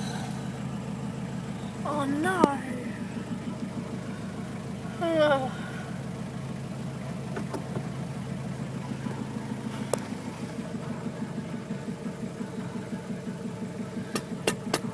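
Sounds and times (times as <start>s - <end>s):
van engine idling: 0.0s - 14.9s.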